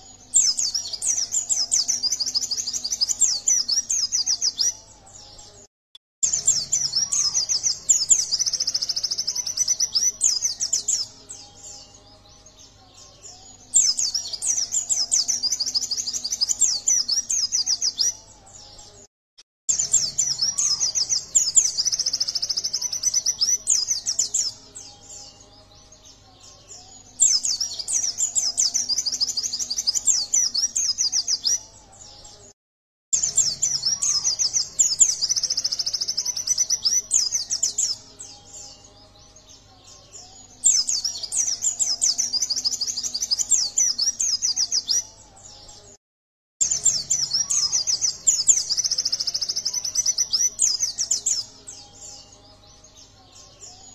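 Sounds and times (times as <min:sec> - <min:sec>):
bird twittering song: 0:00.0 - 0:19.0, 0:19.7 - 0:32.5, 0:33.2 - 0:46.0, 0:46.6 - 0:53.9.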